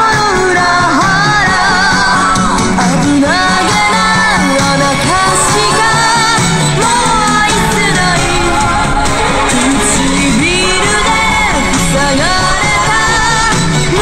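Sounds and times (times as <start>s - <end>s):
person singing: 0.0s - 14.0s
pop band backing: 0.0s - 14.0s.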